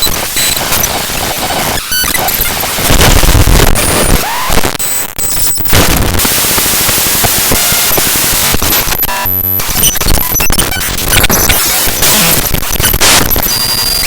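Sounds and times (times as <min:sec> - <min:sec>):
harsh dense static and crackle: 0:00.0 - 0:14.0.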